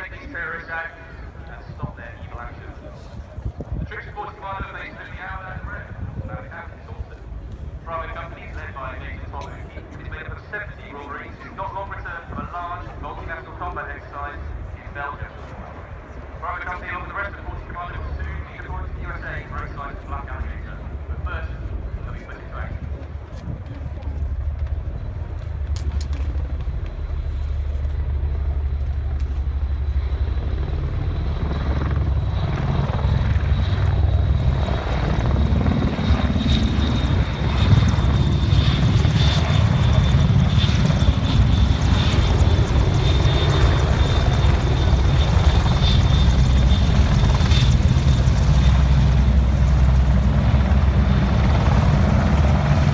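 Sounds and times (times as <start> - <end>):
helicopter rotor beating: 0.0 - 52.9
turbine whine: 0.0 - 52.9.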